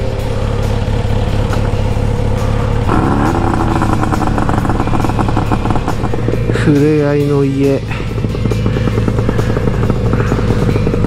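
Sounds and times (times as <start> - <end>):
motorcycle engine running: 0.0 - 11.0
pulsing engine note: 0.0 - 11.0.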